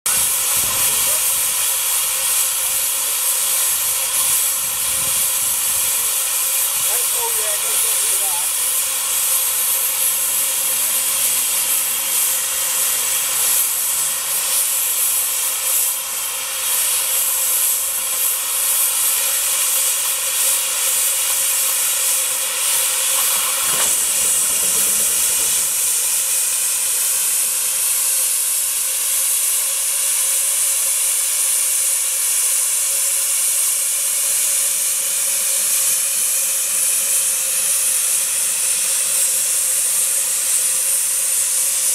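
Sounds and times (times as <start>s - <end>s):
steam venting hiss: 0.1s - 41.9s.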